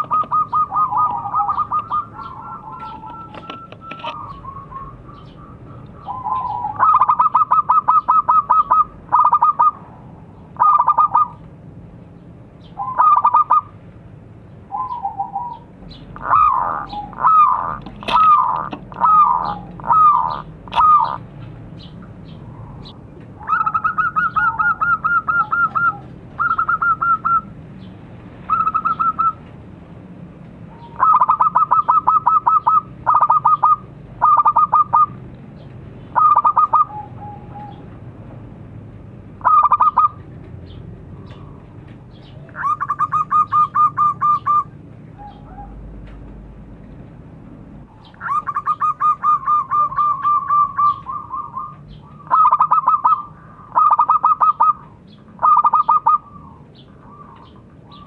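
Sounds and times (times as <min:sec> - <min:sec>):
dove cooing: 0:00.0 - 0:11.4, 0:12.8 - 0:13.7, 0:14.7 - 0:21.3, 0:22.4 - 0:27.5, 0:28.5 - 0:29.4, 0:30.8 - 0:35.2, 0:36.1 - 0:37.9, 0:39.4 - 0:40.2, 0:41.2 - 0:45.8, 0:47.9 - 0:58.0.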